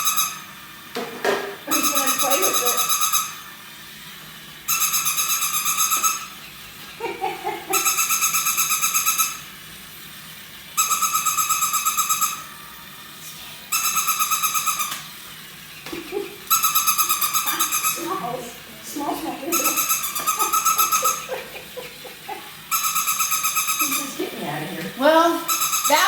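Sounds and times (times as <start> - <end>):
toy robot dog pulsing tone: 0.0 - 0.6, 1.6 - 3.8, 4.6 - 26.0.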